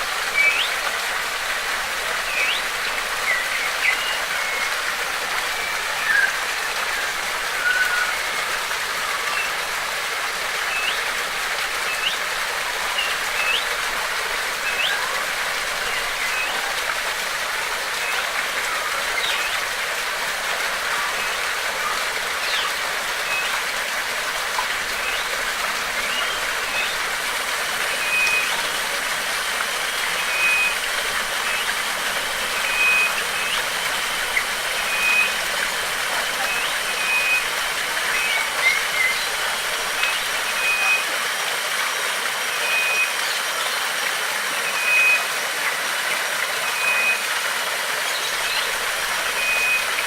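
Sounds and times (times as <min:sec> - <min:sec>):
flowing water: 0:00.0 - 0:50.0
birds chirping: 0:00.2 - 0:41.2, 0:48.0 - 0:50.0.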